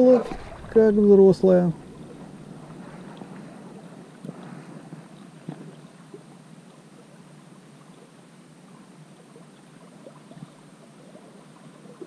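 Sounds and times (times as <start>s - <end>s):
river water gurgling: 0.0s - 12.0s.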